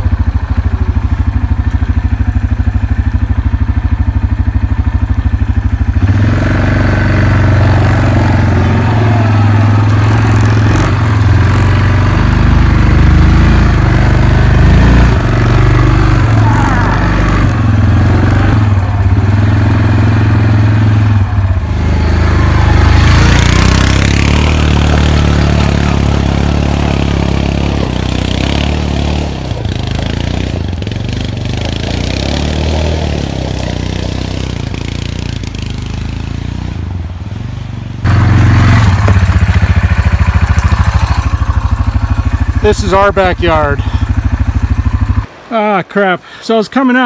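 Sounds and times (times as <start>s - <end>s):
atv engine revving: 0.0s - 45.9s.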